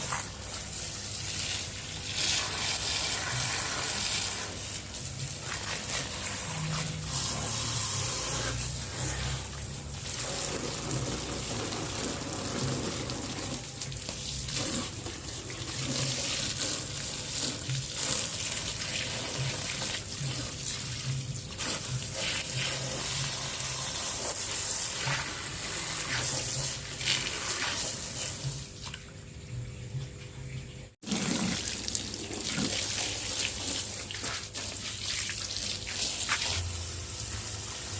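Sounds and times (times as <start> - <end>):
water spray hissing: 0.0 - 29.0, 31.0 - 37.9.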